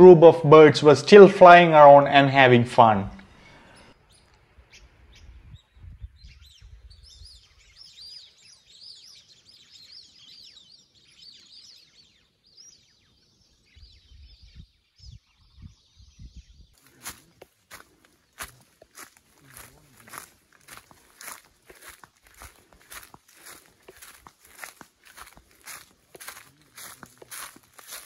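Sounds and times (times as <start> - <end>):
flock of birds chirping: 3.1 - 28.0.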